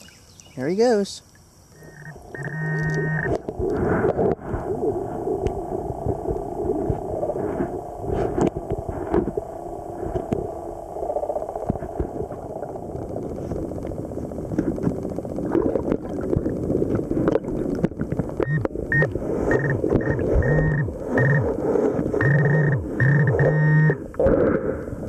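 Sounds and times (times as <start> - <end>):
underwater rumbling and gurgling: 1.5 - 25.0.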